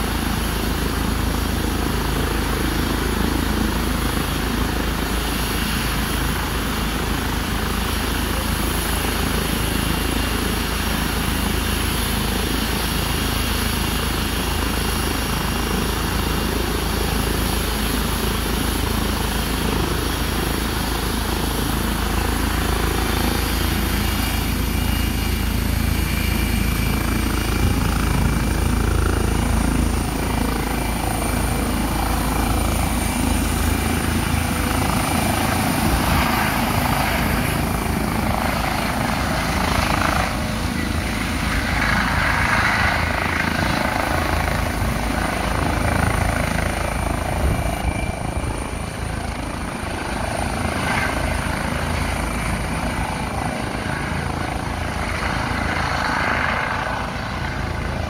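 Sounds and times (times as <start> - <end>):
helicopter rotor beat: 0.0 - 58.0
high turbine whine: 0.0 - 58.0.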